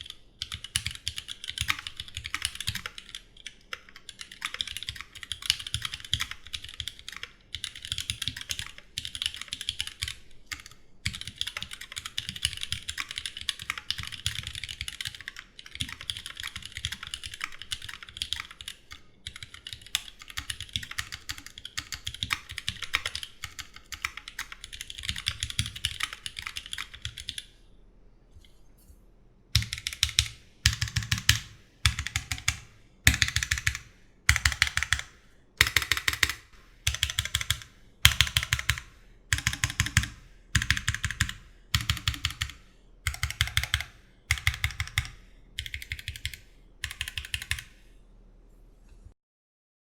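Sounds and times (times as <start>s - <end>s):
mechanical keyboard typing: 0.0s - 27.5s, 29.6s - 47.8s.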